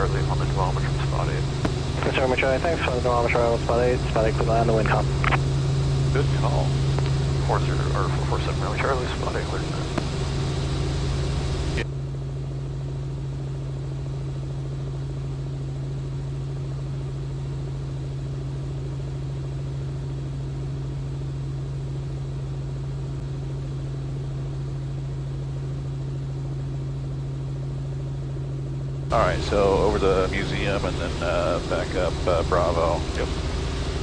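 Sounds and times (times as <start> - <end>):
helicopter rotor drone: 0.0 - 34.0.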